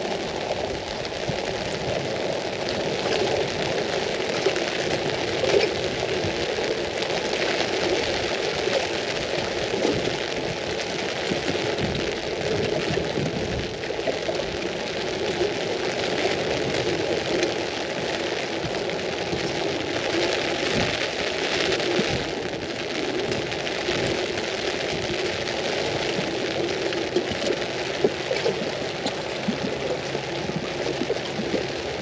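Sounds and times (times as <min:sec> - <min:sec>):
rain on an umbrella: 0:00.0 - 0:32.0.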